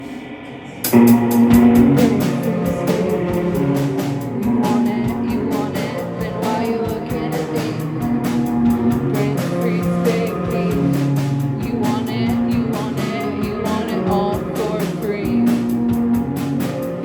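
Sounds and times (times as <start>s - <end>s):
steady drum beat: 0.8s - 17.0s
rock band playing live: 0.9s - 17.0s.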